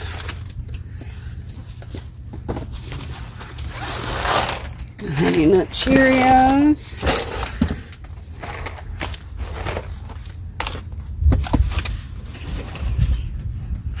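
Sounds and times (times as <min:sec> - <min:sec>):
packages rustling: 0:00.0 - 0:13.3.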